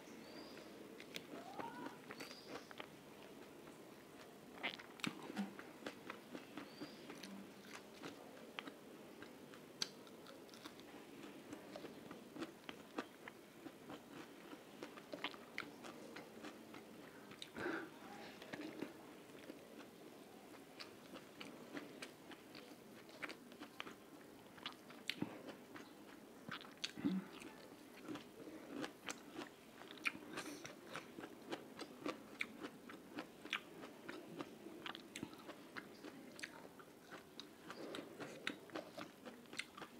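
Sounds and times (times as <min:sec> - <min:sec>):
person chewing crunchy food: 0:00.5 - 0:17.8, 0:18.4 - 0:39.9.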